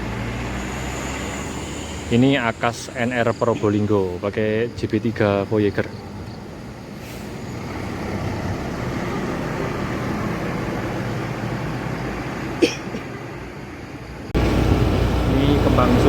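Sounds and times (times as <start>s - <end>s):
bus driving past: 0.0s - 16.0s.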